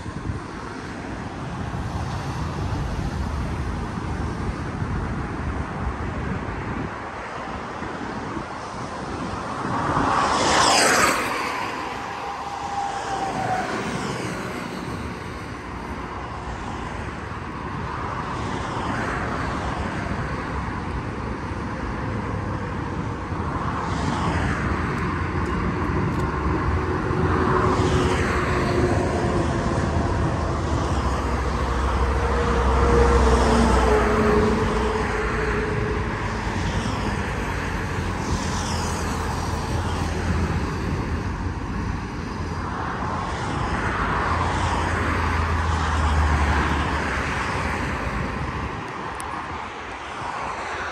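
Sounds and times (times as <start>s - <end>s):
low traffic rumble: 0.0s - 50.9s
vehicles passing: 0.0s - 50.9s.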